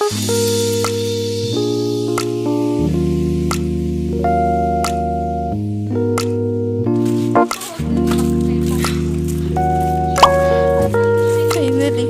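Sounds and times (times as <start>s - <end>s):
background music of held chords: 0.0s - 12.0s.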